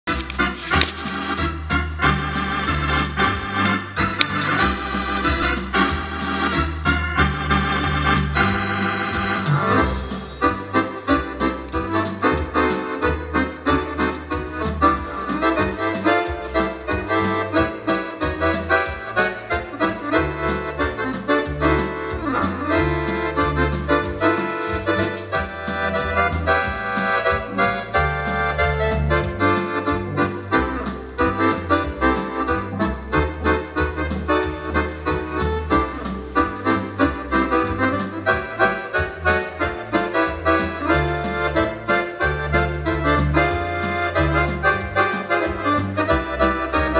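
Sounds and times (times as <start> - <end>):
electronic organ playing: 0.0 - 46.9.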